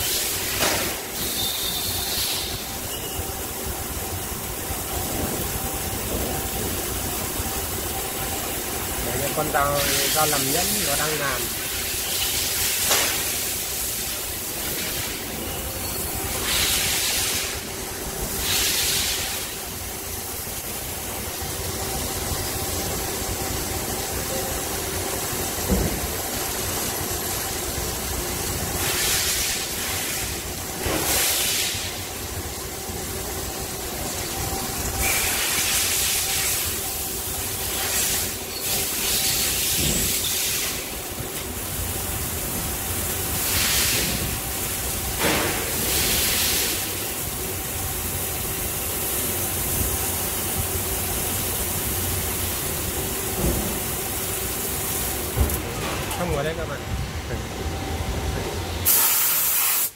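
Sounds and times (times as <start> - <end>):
hiss of spraying coolant: 0.0 - 55.7, 58.8 - 59.9.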